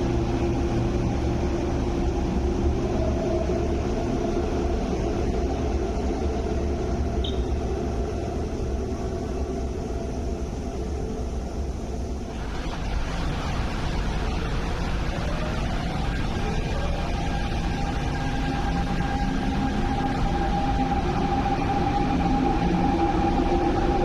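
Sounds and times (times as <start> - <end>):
open-air platform ambience: 0.0 - 24.0
train rumbling through station: 0.0 - 24.0.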